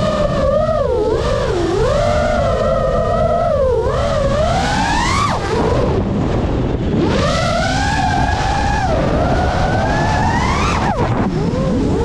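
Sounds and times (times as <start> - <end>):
drone motors whining: 0.0 - 12.0
low rumble: 0.0 - 12.0.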